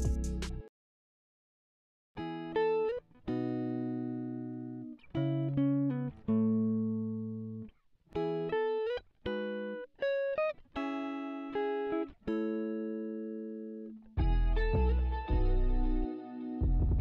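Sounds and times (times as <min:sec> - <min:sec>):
guitar playing slow notes: 0:02.2 - 0:17.0.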